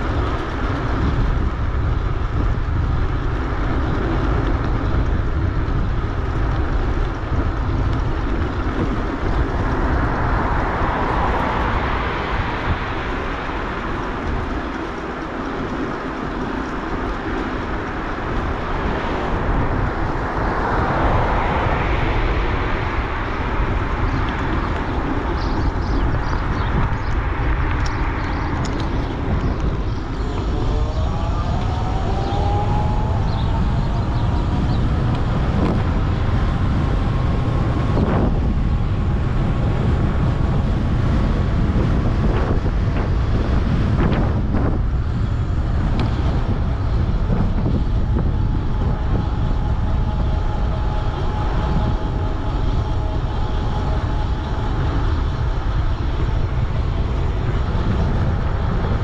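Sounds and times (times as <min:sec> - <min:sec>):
road rumble: 0:00.0 - 0:59.0
wind buffeting the microphone: 0:00.0 - 0:59.0.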